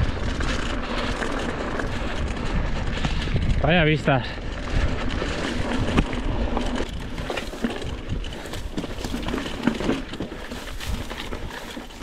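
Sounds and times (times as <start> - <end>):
bike rattling: 0.0 - 12.0
bike tyres crunching on rock: 0.0 - 12.0
wind rumble on microphone: 0.0 - 12.0.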